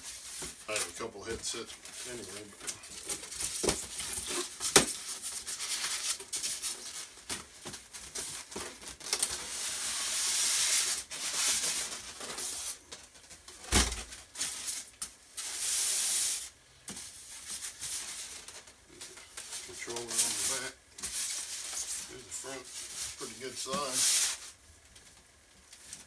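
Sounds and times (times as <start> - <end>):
packaging crinkling and rustling: 0.1 - 10.0, 10.6 - 15.4, 16.9 - 26.0.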